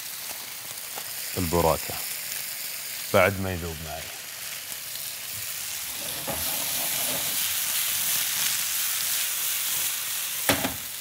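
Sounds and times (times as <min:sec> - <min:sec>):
food sizzling in hot pans: 0:00.0 - 0:11.0.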